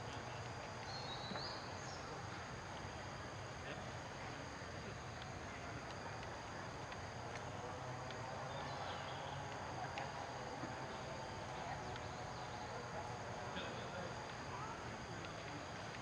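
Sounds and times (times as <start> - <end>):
insects droning: 0.0 - 16.0
low outdoor murmur: 0.0 - 16.0.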